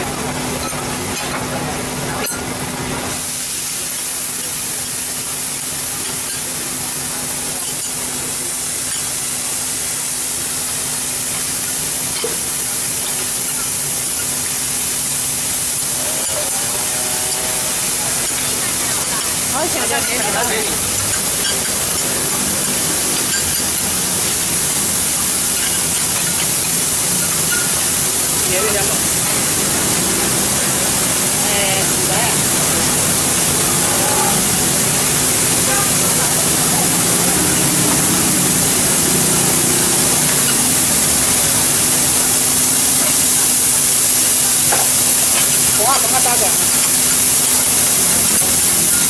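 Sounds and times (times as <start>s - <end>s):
bean sprouts sizzling on griddle: 0.0s - 49.0s
spatulas stirring on griddle: 3.1s - 49.0s.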